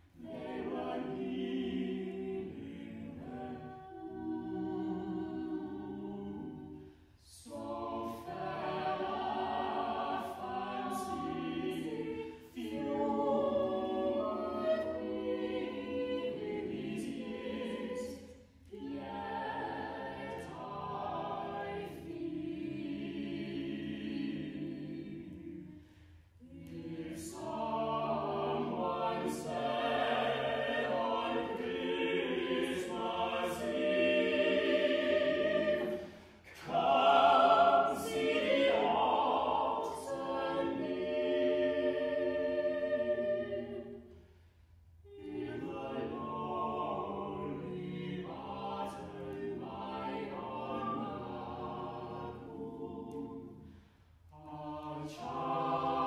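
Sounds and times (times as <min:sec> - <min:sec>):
a cappella choir singing: 0:00.0 - 0:56.0.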